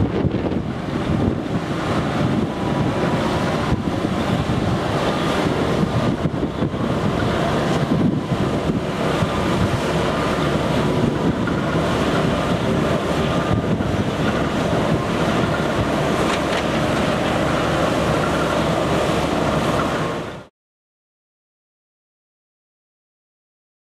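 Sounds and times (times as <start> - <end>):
wind buffeting microphone: 0.0 - 20.4.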